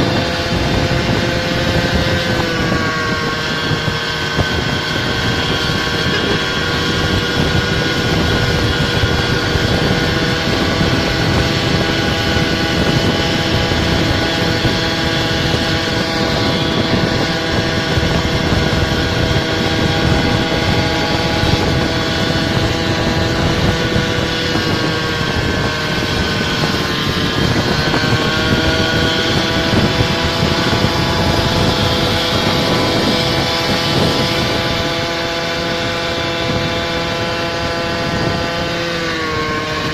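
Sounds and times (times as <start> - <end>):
road and wind rushing noise: 0.0 - 39.9
scooter engine running: 0.0 - 39.9.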